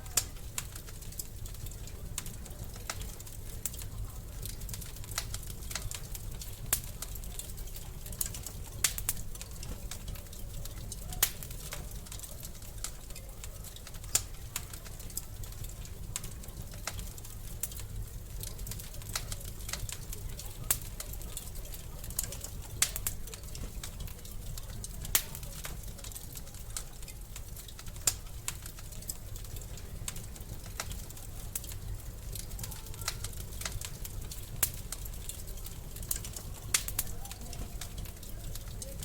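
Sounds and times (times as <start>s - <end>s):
low rumble of flames: 0.0s - 39.0s
wood fire popping and snapping: 0.0s - 39.0s.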